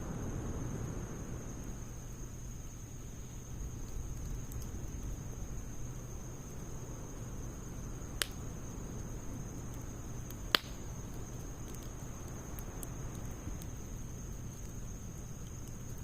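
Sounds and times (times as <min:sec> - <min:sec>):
fire crackles: 0:00.0 - 0:16.0
sharp pops of fire: 0:00.0 - 0:16.0
wood fire rumbling: 0:00.0 - 0:16.0.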